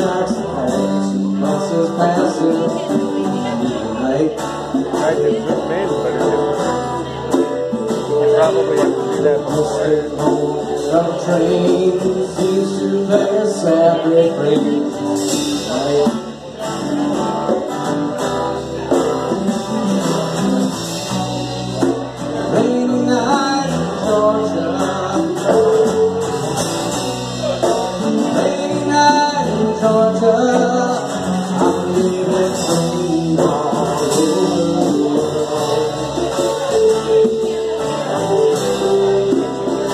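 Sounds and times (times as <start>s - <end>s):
live band playing slow song: 0.0s - 39.9s
man singing: 0.0s - 39.9s.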